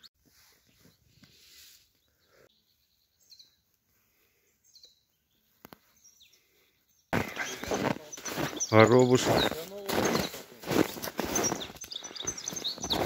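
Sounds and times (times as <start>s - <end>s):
faint high bird chirps: 0.0s - 3.8s, 4.4s - 10.4s, 11.2s - 13.0s.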